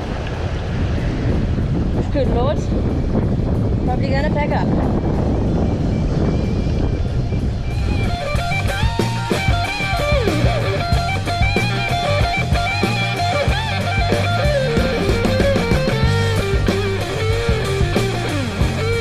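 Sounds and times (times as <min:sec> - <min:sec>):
rock music with electric guitar: 0:02.9 - 0:19.0.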